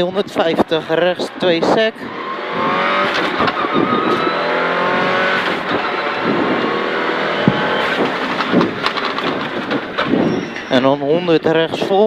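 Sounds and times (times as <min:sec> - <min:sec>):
rally car engine pulling hard: 0:00.0 - 0:11.9
road noise: 0:00.0 - 0:12.0.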